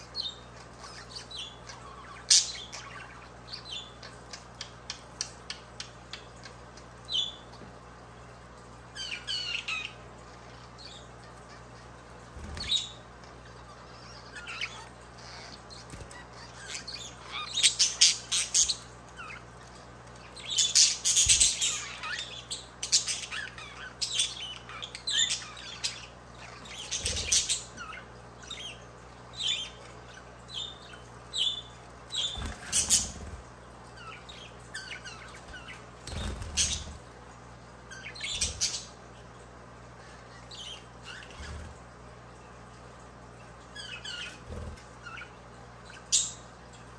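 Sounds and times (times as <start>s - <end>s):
budgerigars chirping and warbling: 0.0s - 7.7s, 8.9s - 37.1s, 37.9s - 39.3s, 40.0s - 41.8s, 43.4s - 46.6s.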